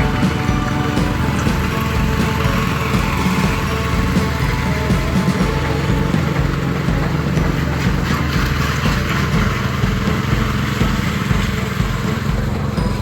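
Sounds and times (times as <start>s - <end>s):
construction machinery engine running: 0.0s - 13.0s.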